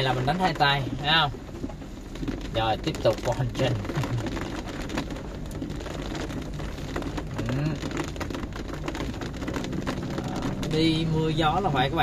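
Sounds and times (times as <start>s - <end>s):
car engine hum: 0.0s - 12.0s
rain on car roof: 0.0s - 12.0s.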